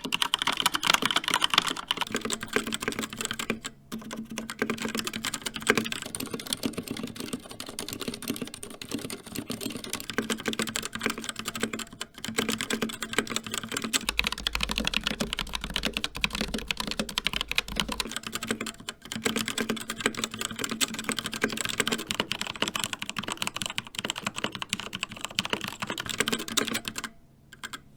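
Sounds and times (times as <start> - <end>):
fast typing on mechanical keyboards: 0.0 - 27.8.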